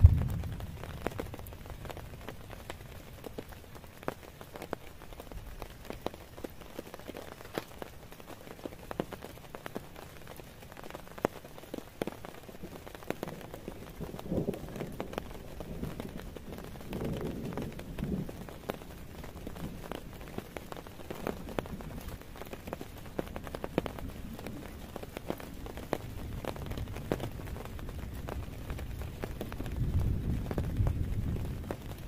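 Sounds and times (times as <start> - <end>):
faint rain hiss: 0.0 - 32.0
raindrops tapping: 0.0 - 32.0.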